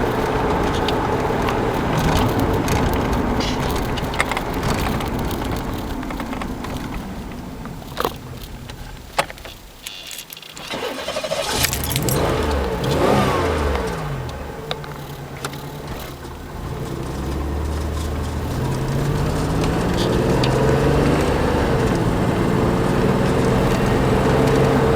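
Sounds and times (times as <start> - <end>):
car engine revving: 0.0 - 9.3, 10.6 - 24.9
clicks: 0.0 - 21.3.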